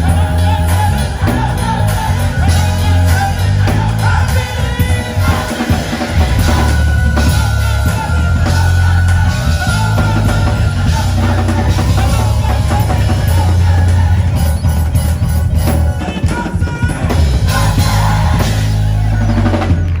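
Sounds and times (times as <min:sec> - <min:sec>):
drum kit: 0:00.0 - 0:20.0
gospel group singing: 0:00.0 - 0:20.0
heavy bass: 0:00.0 - 0:20.0.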